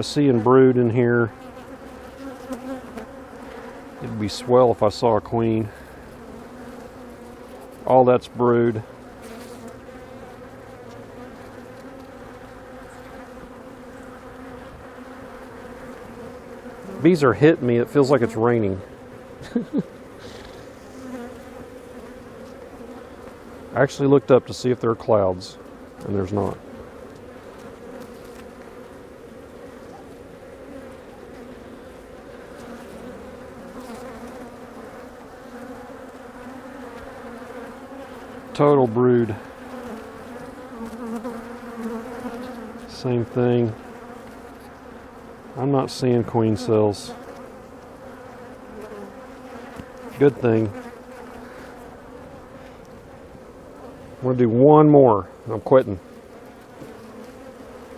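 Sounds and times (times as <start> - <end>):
bees buzzing: 0.0 - 57.9.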